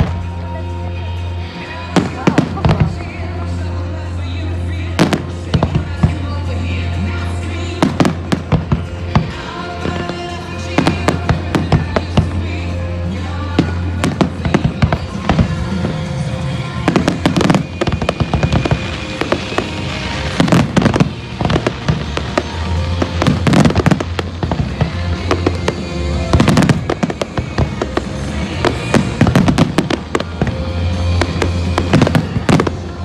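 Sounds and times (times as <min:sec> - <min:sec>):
background music: 0:00.0 - 0:33.0
fireworks bangs and crackle: 0:00.0 - 0:33.0.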